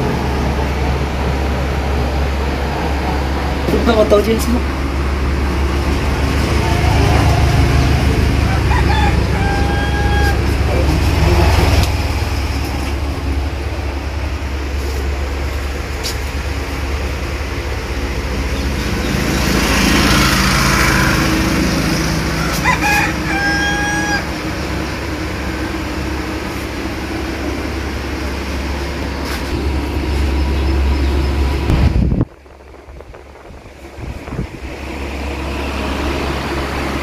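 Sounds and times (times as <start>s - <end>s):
low rumble: 0.0s - 22.4s, 24.3s - 37.0s.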